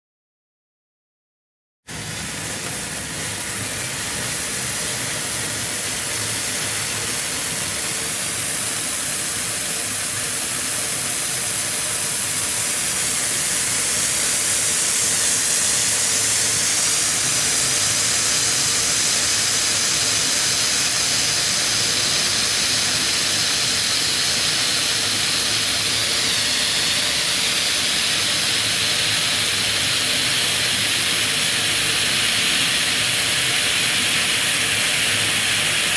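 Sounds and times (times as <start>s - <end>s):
hiss of spraying sparks: 1.9s - 35.9s.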